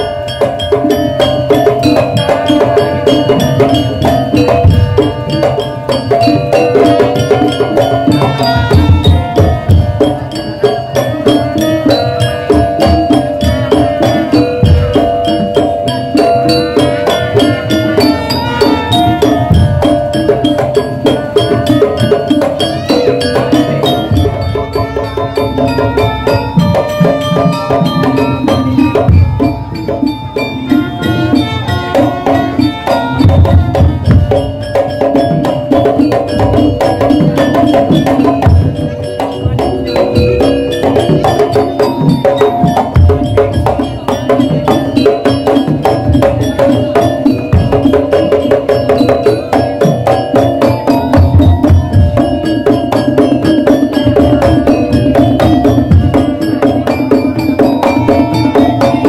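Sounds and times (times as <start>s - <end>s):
pitched percussion ringing: 0.0s - 59.0s
rapid drum strokes: 0.0s - 59.0s.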